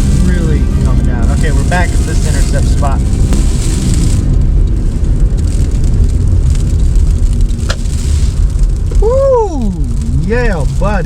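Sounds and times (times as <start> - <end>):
road noise: 0.0 - 11.0
wind buffeting a car: 0.0 - 11.0.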